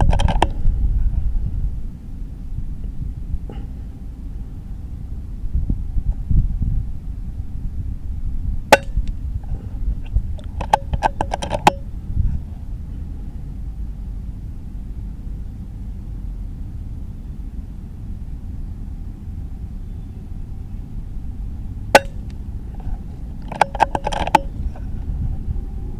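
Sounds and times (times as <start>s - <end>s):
wind buffeting microphone: 0.0s - 16.4s, 19.4s - 25.9s.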